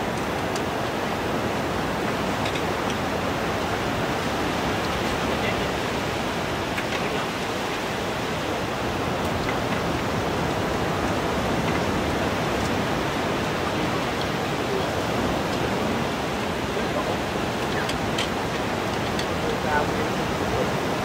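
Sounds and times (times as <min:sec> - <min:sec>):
sea surf breaking on beach: 0:00.0 - 0:21.0.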